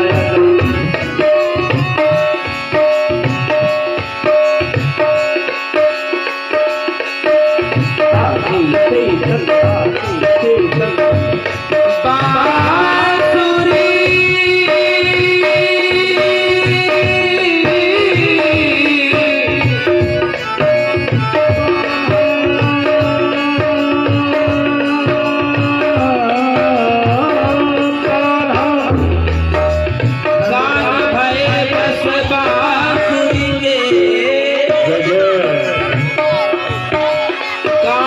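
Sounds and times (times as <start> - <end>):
devotional song: 0.0 - 38.0
tabla beat: 0.0 - 38.0.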